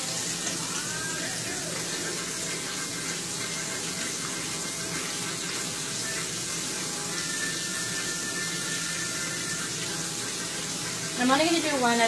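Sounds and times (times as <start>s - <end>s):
patty sizzling in hot oil: 0.0s - 12.0s.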